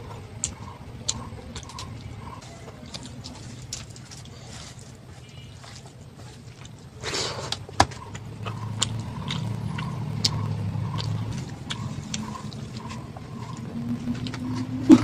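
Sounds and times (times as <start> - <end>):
crunchy chewing: 0.0 - 15.0
low steady hum: 0.0 - 15.0.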